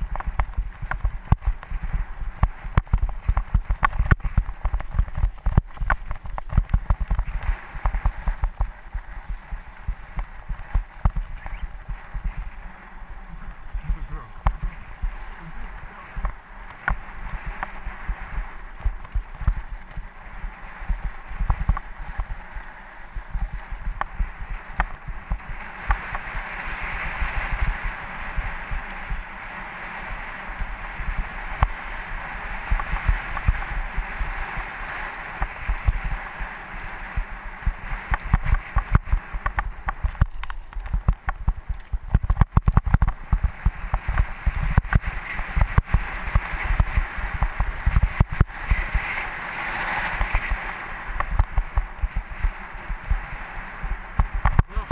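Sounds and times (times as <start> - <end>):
tyre and wind noise: 0.0 - 54.9.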